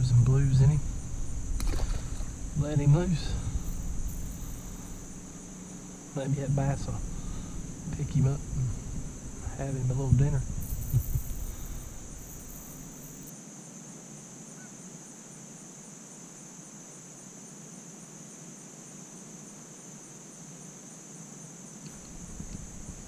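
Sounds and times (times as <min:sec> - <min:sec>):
faint outdoor background: 0:00.0 - 0:23.0
high-pitched insect chorus: 0:00.0 - 0:23.0.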